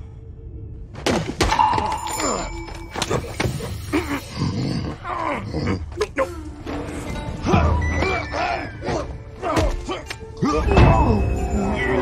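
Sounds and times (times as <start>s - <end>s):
film score music: 0.0s - 12.0s.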